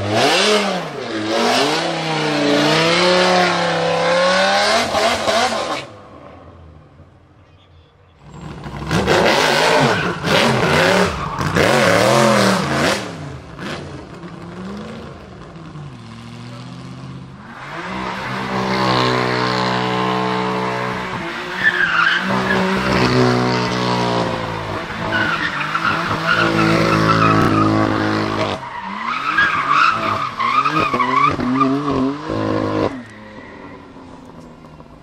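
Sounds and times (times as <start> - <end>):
car engine revving: 0.0 - 6.0, 8.2 - 35.0.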